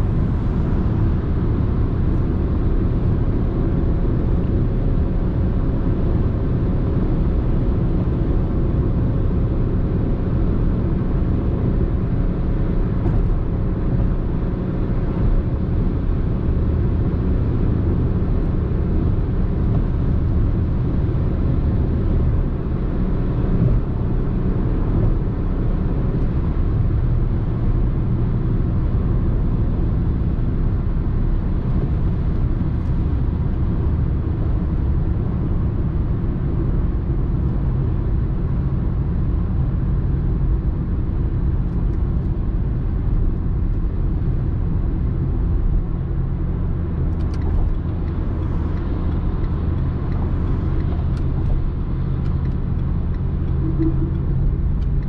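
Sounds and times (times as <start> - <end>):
car engine running: 0.0 - 55.0
road and wind noise: 0.0 - 55.0.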